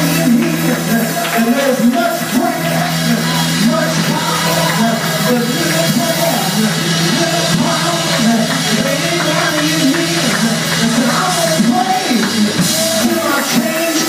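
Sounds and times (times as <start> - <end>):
steady low held note: 0.0 - 13.8
instruments playing: 0.0 - 14.0
voices singing worship music: 0.0 - 14.0.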